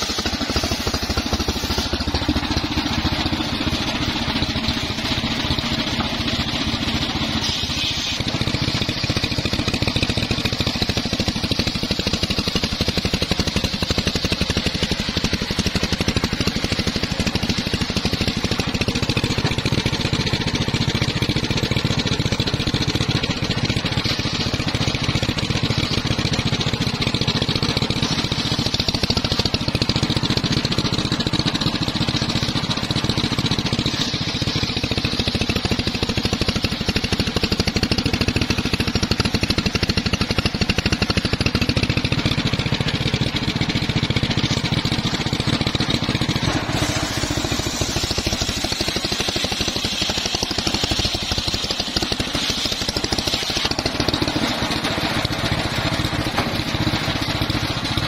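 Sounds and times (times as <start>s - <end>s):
circular saw cutting log: 0.0s - 58.0s
engine running: 0.0s - 58.0s.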